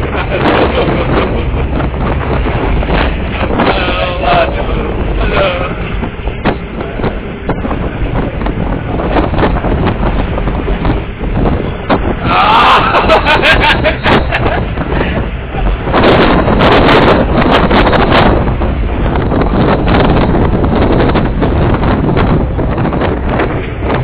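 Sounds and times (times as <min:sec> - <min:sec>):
truck engine and road noise: 0:00.0 - 0:24.0
wind on microphone: 0:00.0 - 0:24.0.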